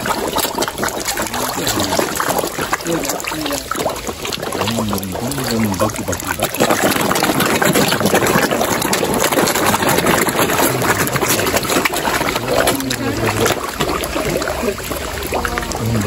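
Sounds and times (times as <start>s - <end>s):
fish splashing in water: 0.0s - 16.0s.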